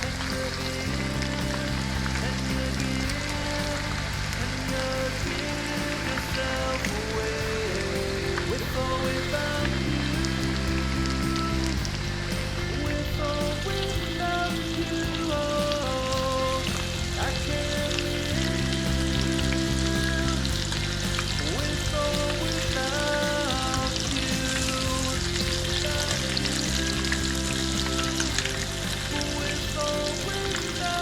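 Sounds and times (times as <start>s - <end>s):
background music with held chords: 0.0s - 31.0s.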